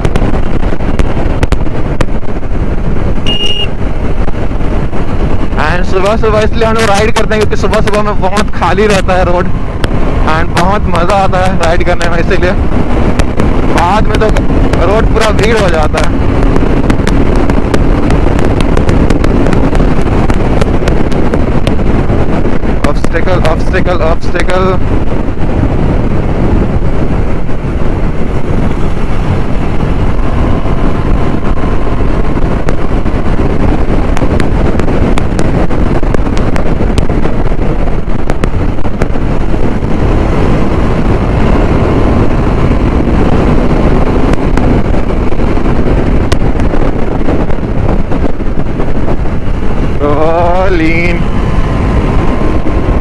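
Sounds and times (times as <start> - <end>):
motorcycle engine: 0.0 - 5.6, 7.0 - 53.0
wind rushing over microphone: 0.0 - 53.0.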